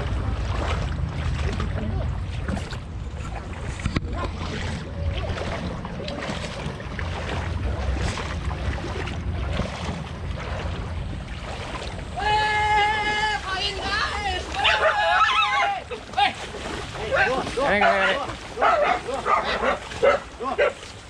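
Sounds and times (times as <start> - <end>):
low microphone rumble: 0.0 - 20.2
feet sloshing through water: 0.0 - 21.0.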